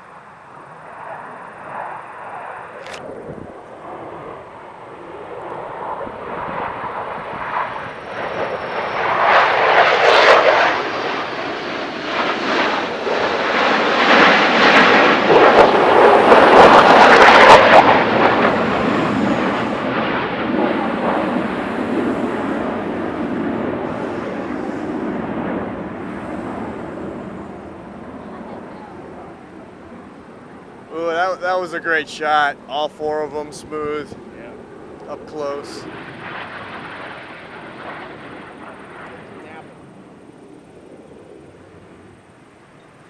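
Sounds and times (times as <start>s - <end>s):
jet engines passing: 0.0s - 43.0s.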